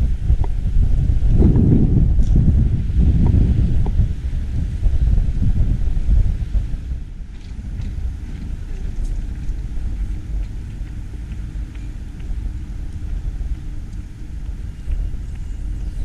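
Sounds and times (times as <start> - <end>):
faint steady hum: 0.0 - 16.0
wind buffeting microphone: 0.0 - 16.0.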